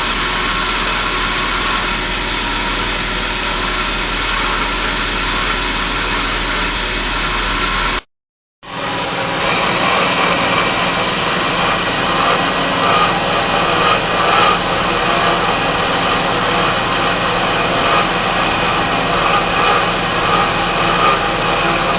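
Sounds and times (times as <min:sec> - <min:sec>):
engine running with abnormal noise: 0:00.0 - 0:21.9.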